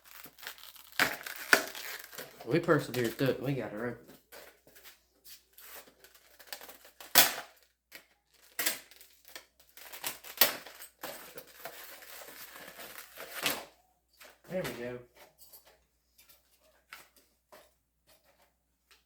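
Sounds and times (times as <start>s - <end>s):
packaging rustling and crinkling: 0.0s - 15.3s.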